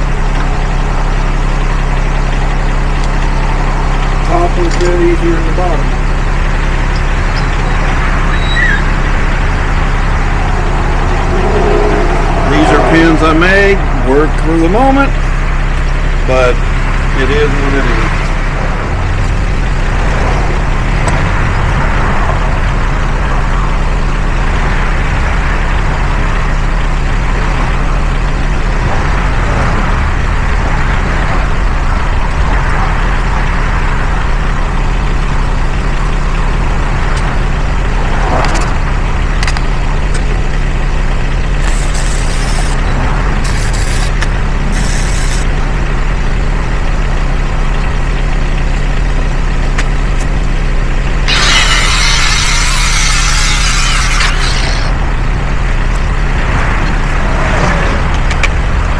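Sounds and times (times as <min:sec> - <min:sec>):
vehicle engine idling: 0:00.0 - 0:58.9.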